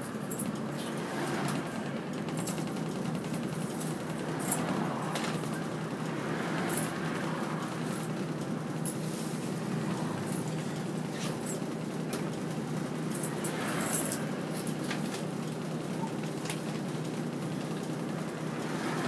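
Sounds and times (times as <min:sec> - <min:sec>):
bus interior engine noise: 0:00.0 - 0:19.0.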